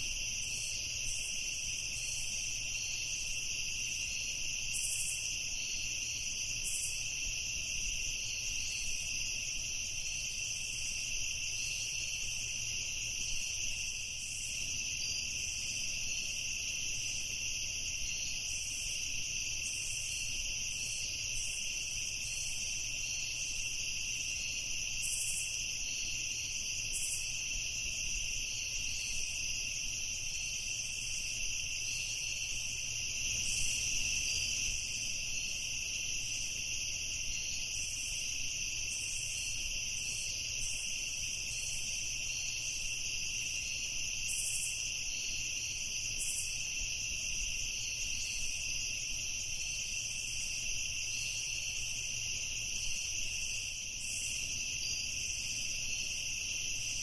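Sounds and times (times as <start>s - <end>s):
crickets trilling: 0.0s - 57.0s
high insect call: 0.0s - 57.0s.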